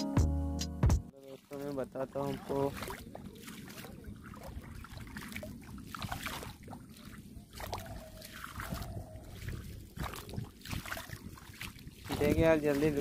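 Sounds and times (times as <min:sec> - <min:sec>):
bare feet splashing in water: 0:01.1 - 0:13.0
water sloshing: 0:01.1 - 0:13.0.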